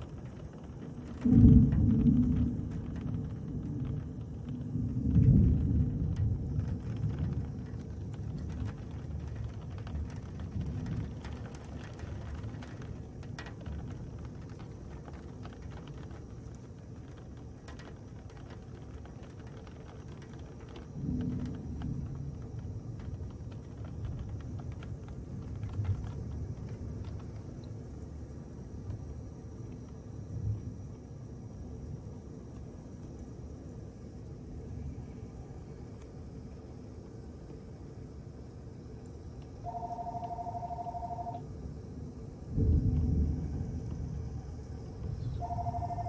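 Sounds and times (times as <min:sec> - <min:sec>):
heavy rain: 0:00.0 - 0:46.0
thunder rumble: 0:00.0 - 0:46.0.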